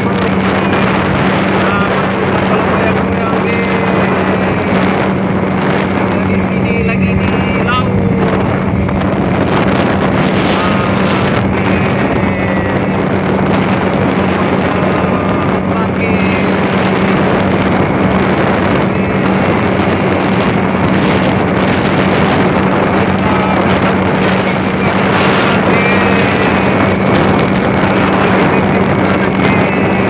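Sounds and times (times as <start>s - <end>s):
rush of wind and water: 0.0s - 30.0s
speedboat engine running: 0.0s - 30.0s.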